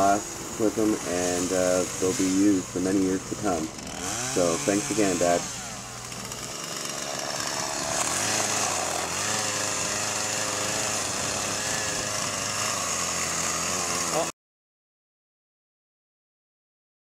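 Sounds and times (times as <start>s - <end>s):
chainsaw running: 0.0s - 14.4s.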